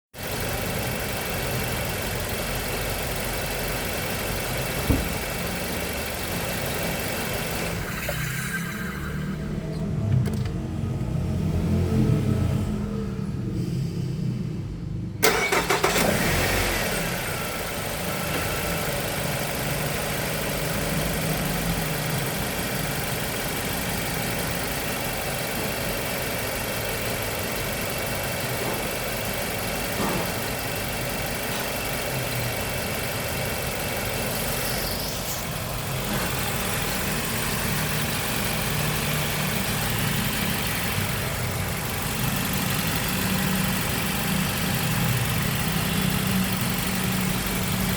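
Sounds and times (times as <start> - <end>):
car engine idling: 0.1 - 12.0, 12.6 - 47.9
engine cam noise: 0.2 - 47.9.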